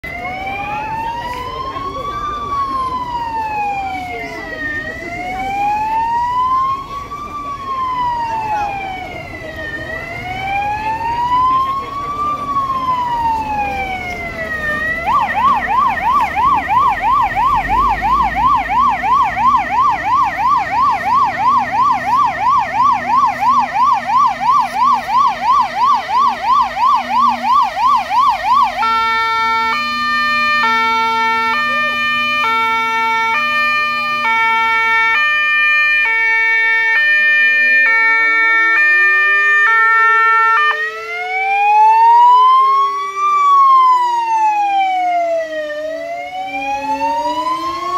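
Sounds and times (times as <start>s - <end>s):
fire truck siren: 0.0s - 47.9s.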